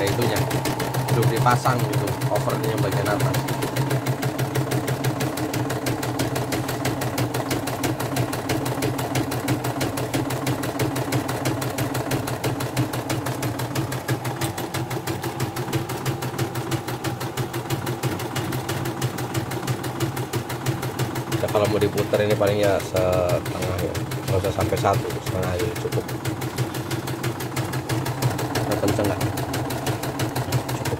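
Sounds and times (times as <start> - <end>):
embroidery machine needle clicking: 0.0 - 30.9
machine motor hum: 0.0 - 30.9.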